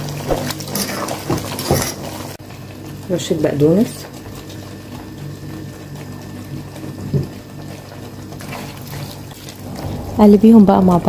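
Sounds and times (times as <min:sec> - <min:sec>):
sauce bubbling in a pan: 0:01.0 - 0:10.0.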